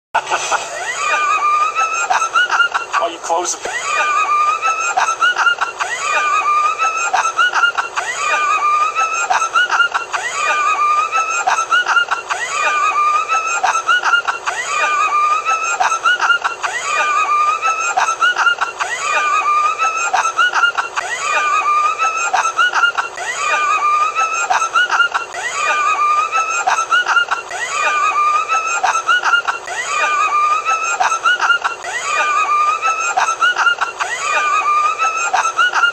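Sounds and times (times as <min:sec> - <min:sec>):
man wheezing laugh: 0:00.2 - 0:03.0, 0:03.6 - 0:35.9.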